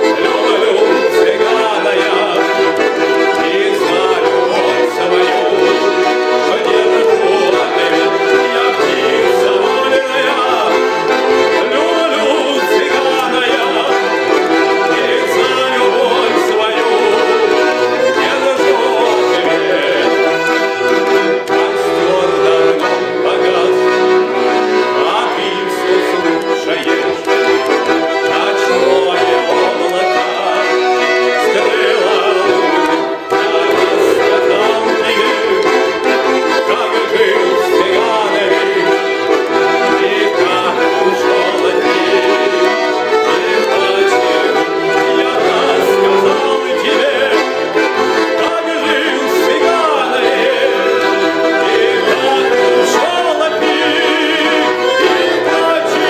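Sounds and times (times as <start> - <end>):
button accordion melody: 0.0 - 56.0.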